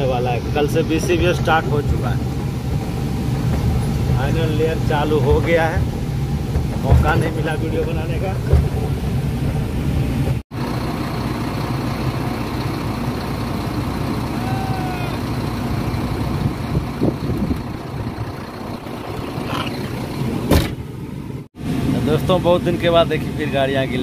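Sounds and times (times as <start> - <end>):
diesel truck engine rumble: 0.0 - 24.0.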